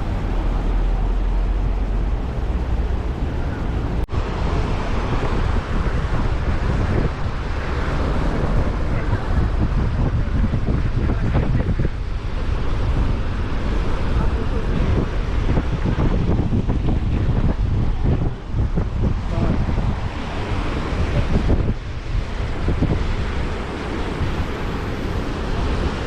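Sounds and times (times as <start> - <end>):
river water rushing: 0.0 - 11.1, 11.8 - 16.0, 17.8 - 26.0
wind rumbling on microphone: 0.0 - 26.0.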